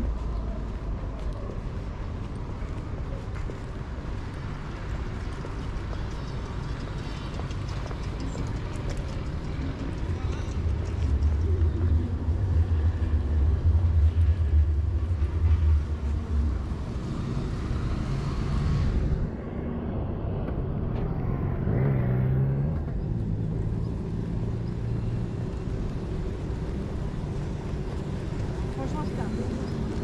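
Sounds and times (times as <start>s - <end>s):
engine passing with hum: 0.0s - 30.0s
rumble of passing vehicles: 0.0s - 30.0s.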